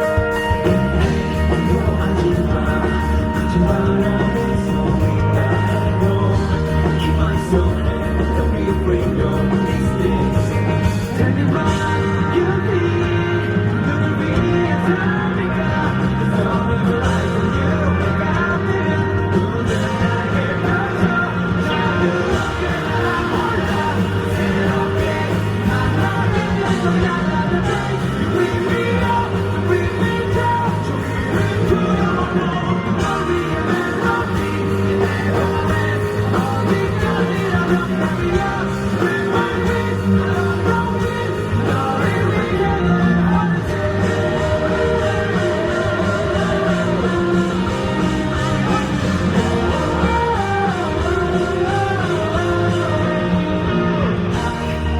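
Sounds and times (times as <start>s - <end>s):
live rock band: 0.0s - 54.9s
man singing: 0.0s - 54.9s.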